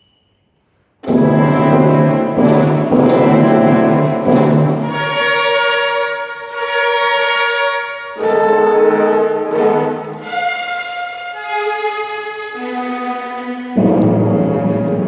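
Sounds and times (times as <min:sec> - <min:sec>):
brass ensemble sustained chords: 0:01.0 - 0:15.0.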